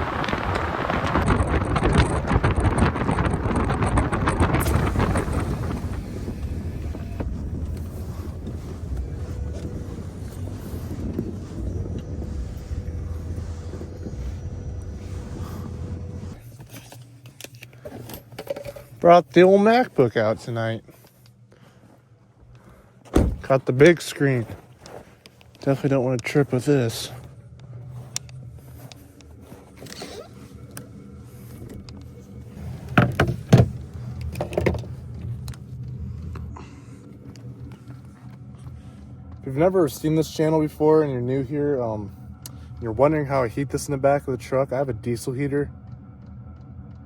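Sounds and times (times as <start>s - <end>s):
air heater humming: 0.0s - 47.0s
engine and road rumble: 0.0s - 47.0s
faint steady whine: 0.0s - 47.0s.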